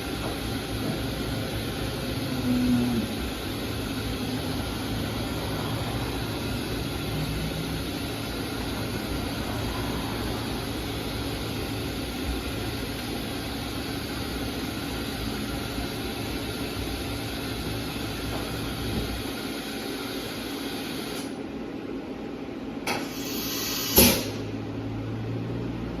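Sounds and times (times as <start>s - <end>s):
machining center whirring and humming: 0.0s - 26.0s.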